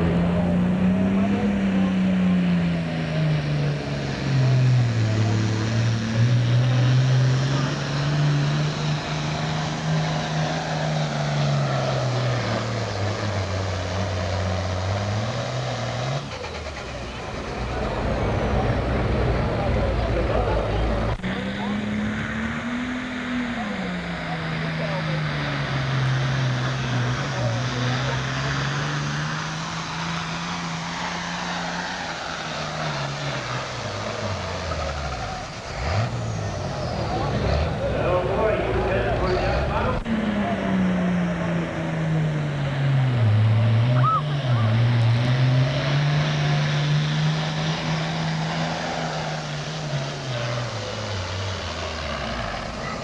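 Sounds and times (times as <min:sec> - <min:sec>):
diesel tractor engine under load: 0:00.0 - 0:53.0.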